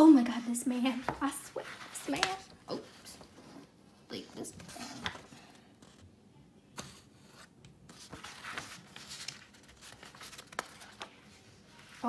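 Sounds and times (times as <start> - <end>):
paper pages rustling: 0.9 - 6.1, 6.8 - 12.0.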